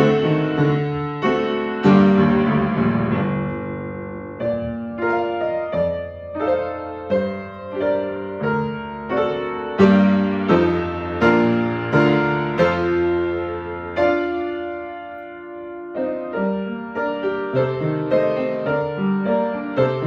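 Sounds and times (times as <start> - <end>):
slow classical piano piece: 0.0 - 20.0.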